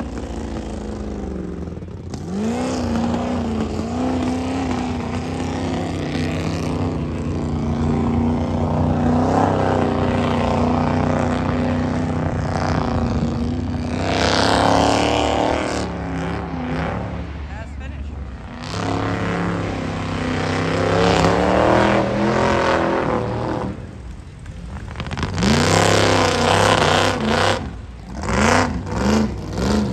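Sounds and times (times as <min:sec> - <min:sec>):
engine revving hard: 0:02.1 - 0:17.9, 0:18.5 - 0:23.8, 0:25.0 - 0:29.9.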